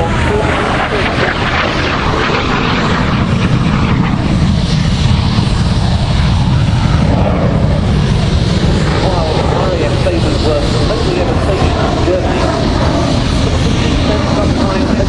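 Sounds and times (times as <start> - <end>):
jet roaring overhead: 0.0 - 15.0.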